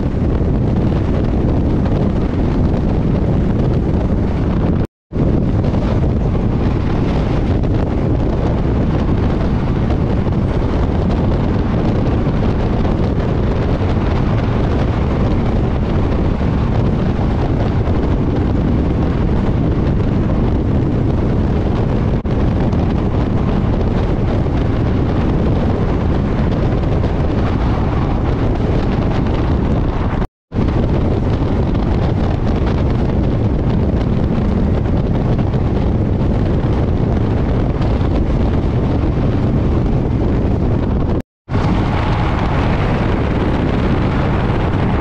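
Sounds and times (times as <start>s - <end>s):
train rumbling on track: 0.0s - 45.0s
wind buffeting microphone: 0.0s - 45.0s.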